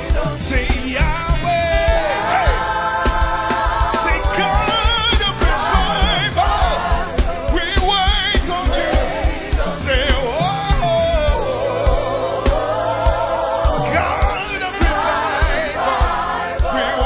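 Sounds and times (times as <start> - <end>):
band playing gospel music: 0.0 - 17.0
kick drum beat: 0.0 - 17.0.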